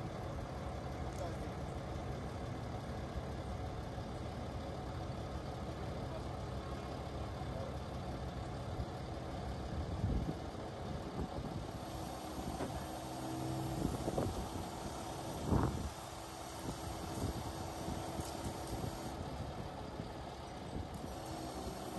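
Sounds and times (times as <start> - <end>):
diesel truck engine running: 0.0 - 21.9.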